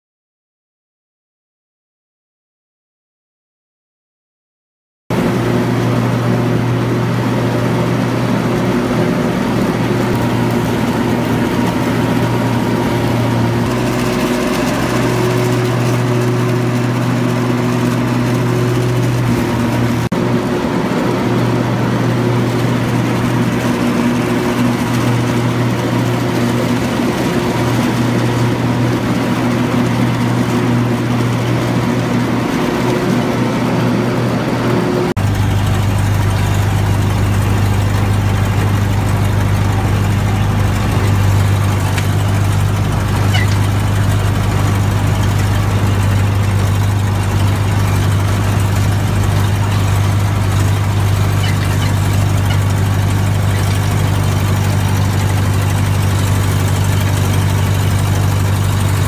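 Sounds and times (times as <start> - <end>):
ride-on lawn mower engine: 5.1 - 59.0.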